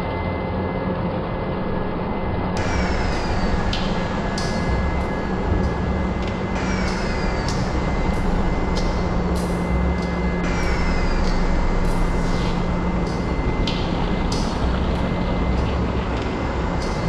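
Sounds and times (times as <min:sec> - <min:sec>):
loud dense noise drone: 0:00.0 - 0:17.0
low hum and rumble: 0:00.0 - 0:17.0.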